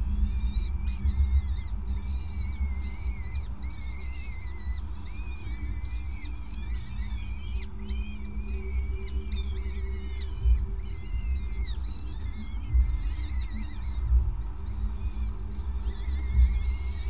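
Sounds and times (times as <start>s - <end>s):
chicks begging calls: 0.0s - 17.0s
steady low rumble: 0.0s - 17.0s.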